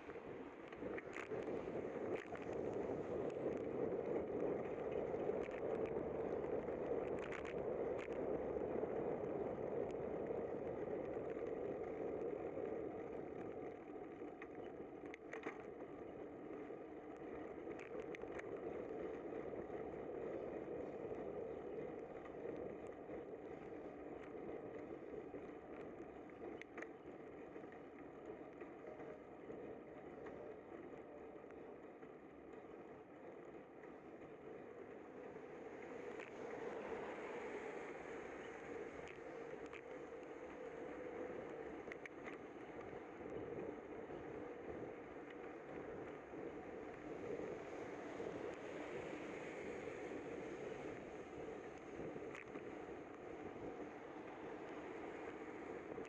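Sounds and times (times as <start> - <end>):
bicycle rolling on wet pavement: 0.0 - 56.0.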